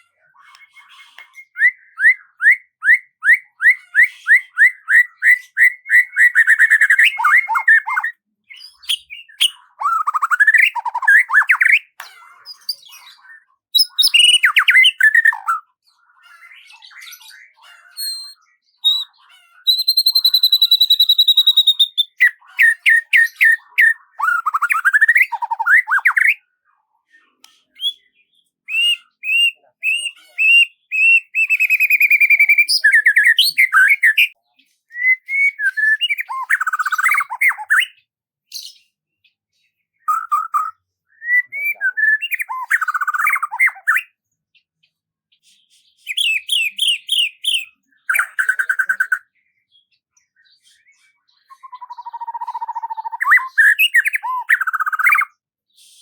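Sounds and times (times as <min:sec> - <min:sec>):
songbird chirping and trilling: 0:00.0 - 0:56.0.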